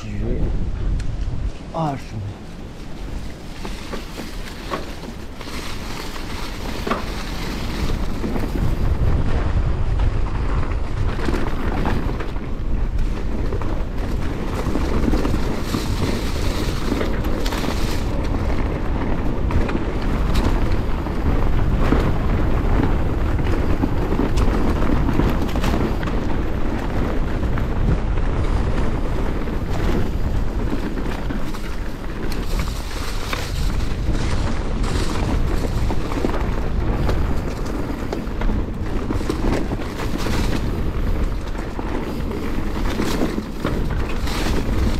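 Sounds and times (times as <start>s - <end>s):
wind buffeting microphone: 0.0s - 44.9s
tyres rolling over dirt and leaves: 1.8s - 44.9s
bike rattling and knocking: 2.6s - 44.9s.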